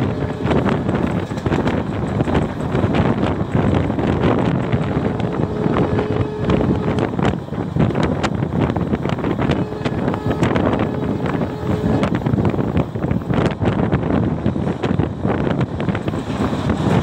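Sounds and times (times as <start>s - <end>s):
train rumbling on track: 0.0s - 17.0s
wind buffeting microphone: 0.0s - 17.0s.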